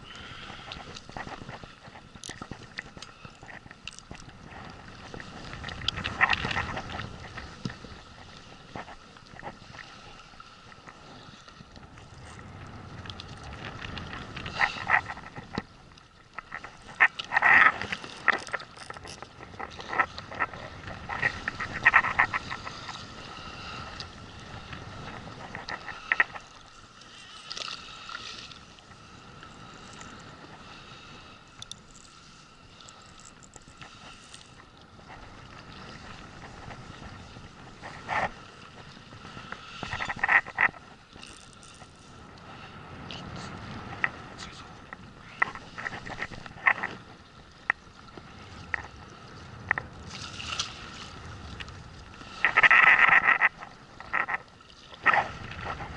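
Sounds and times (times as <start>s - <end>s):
water noise: 0.0s - 55.9s
wind: 0.0s - 55.9s.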